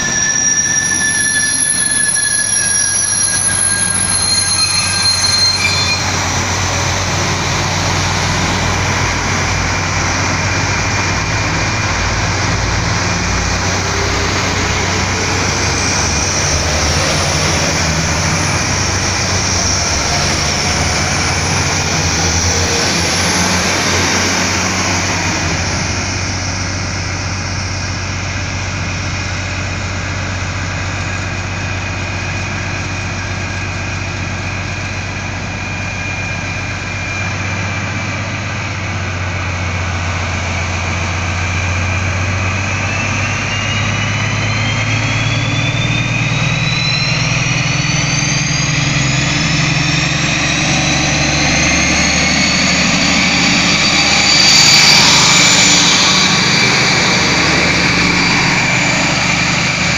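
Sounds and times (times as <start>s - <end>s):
faint high squeal: 0.0s - 59.9s
idling locomotive hum: 0.0s - 59.9s
railcar engine and wheel noise: 0.0s - 59.9s.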